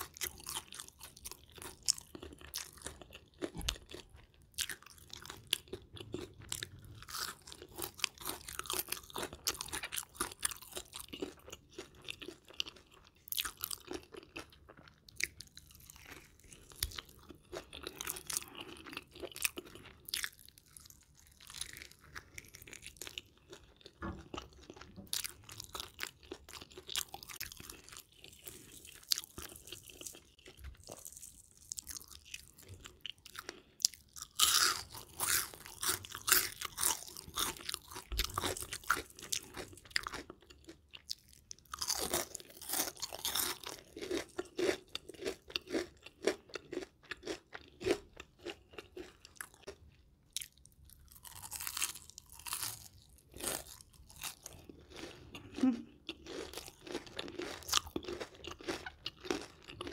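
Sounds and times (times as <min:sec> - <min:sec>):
chewing crispy fried food: 0:00.0 - 0:59.9.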